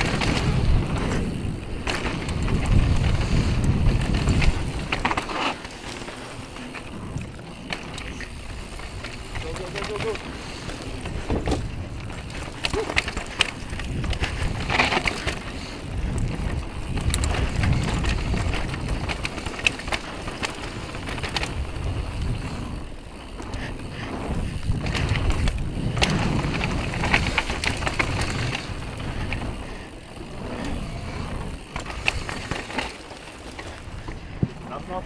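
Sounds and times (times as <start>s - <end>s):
wind rumble on microphone: 0.0s - 5.3s, 6.8s - 32.8s
bike frame and chain rattling: 0.0s - 35.0s.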